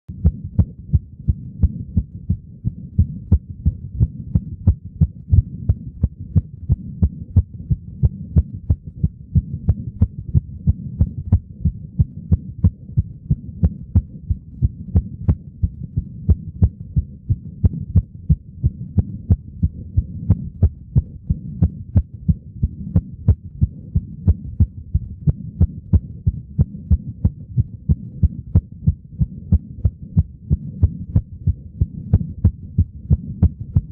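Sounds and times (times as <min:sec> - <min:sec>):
fast heartbeat: 0:00.1 - 0:33.9
low steady hum: 0:00.1 - 0:33.9.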